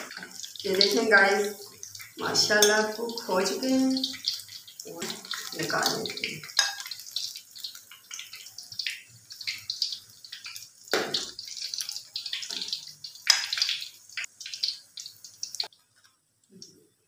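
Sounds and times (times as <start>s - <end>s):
hot oil sizzling and crackling: 0.0s - 16.7s.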